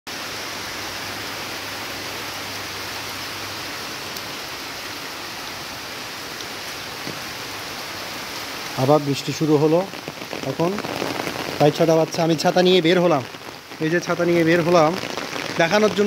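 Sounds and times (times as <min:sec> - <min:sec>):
heavy rain falling: 0:00.1 - 0:16.0.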